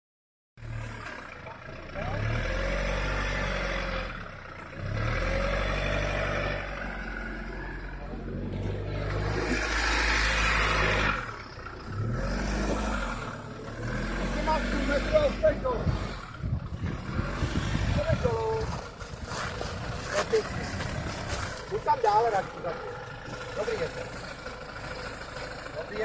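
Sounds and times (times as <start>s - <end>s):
car engine revving under load: 0.6s - 26.0s.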